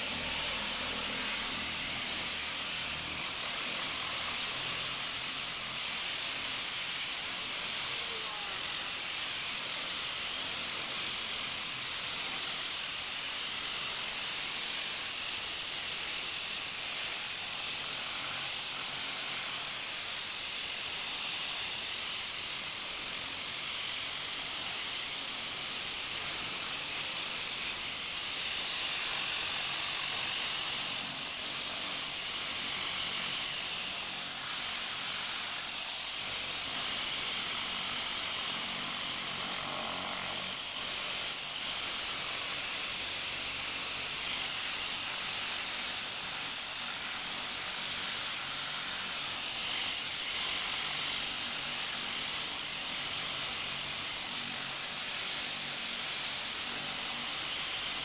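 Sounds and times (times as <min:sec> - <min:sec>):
pressure washer spray hiss: 0:00.0 - 0:58.0.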